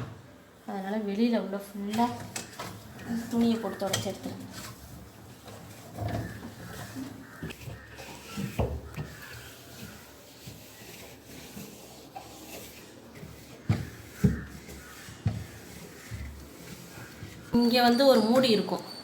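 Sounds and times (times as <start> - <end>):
wet cloth rubbing on metal panels: 1.6 - 17.6.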